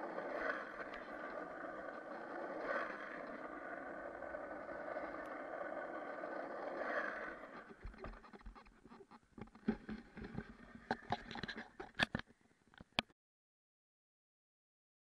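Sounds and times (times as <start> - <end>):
skateboard wheels rolling on asphalt: 0.0 - 12.1.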